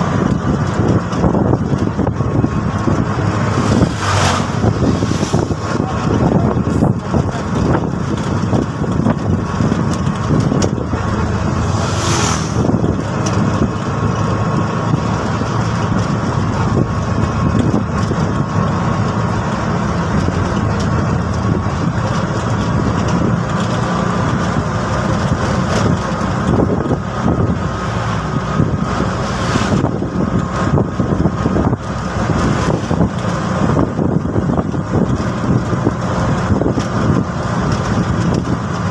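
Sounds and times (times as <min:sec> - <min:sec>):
road and wind noise: 0:00.0 - 0:38.9
three-wheeler engine running: 0:00.0 - 0:38.9.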